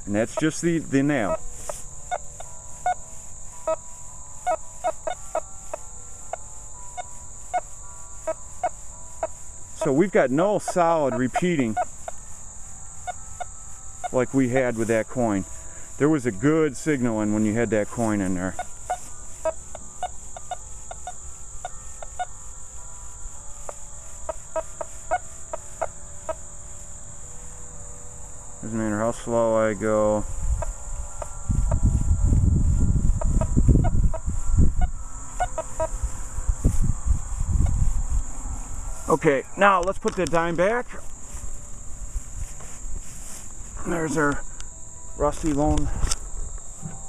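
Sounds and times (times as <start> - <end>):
high-pitched insect trill: 0.0 - 47.0
metal detector chirps: 0.0 - 47.0.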